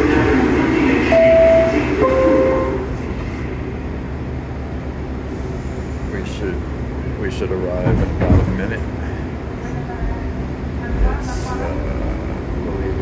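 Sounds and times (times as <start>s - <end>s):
subway car hum: 0.0s - 13.0s.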